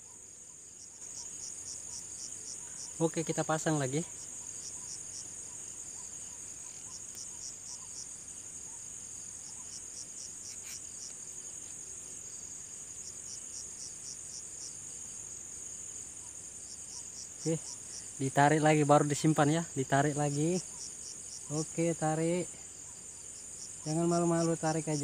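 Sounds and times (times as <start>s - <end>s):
crickets trilling: 0.0s - 25.0s
insect chirping in quick pulses: 0.0s - 25.0s.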